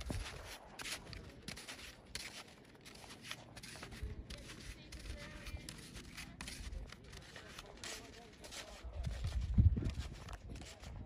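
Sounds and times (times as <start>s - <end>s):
snowshoes crunching in snow: 0.0s - 11.0s.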